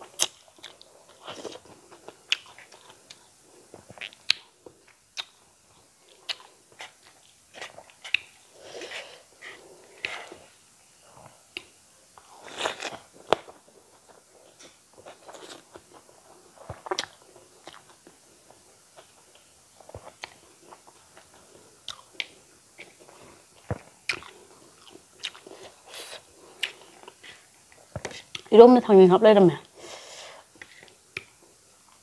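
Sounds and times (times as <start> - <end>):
close-miked chewing: 0.0 - 10.5, 11.1 - 28.5.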